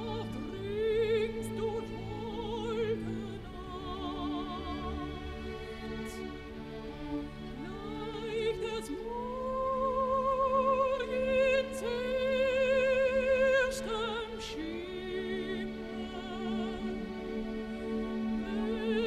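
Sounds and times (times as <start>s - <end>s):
orchestra playing: 0.0s - 19.0s
soprano singing: 0.0s - 19.0s.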